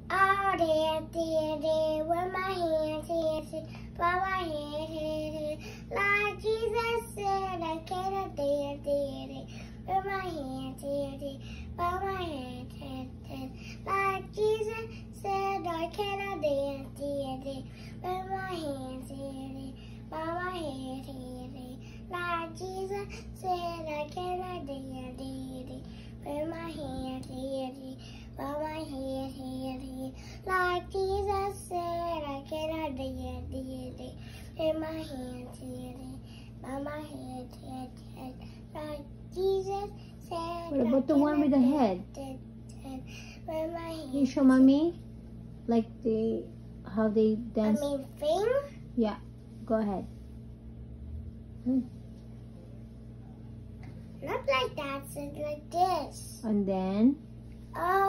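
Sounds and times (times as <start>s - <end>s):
child singing wordless melody: 0.0s - 44.4s, 54.2s - 56.3s, 57.7s - 58.0s.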